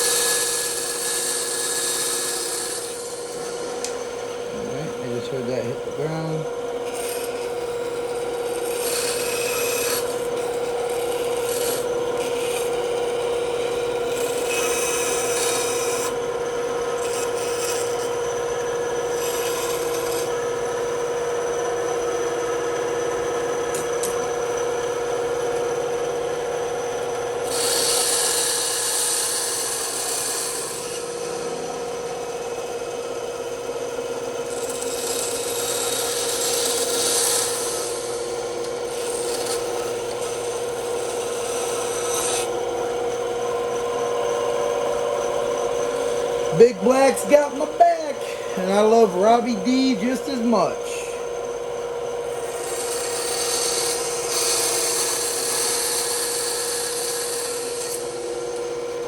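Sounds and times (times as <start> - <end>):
saw blade cutting wood: 0.0 - 16.2, 16.8 - 20.6, 27.4 - 32.0, 34.4 - 51.3, 52.3 - 58.8
bandsaw humming: 0.0 - 59.0.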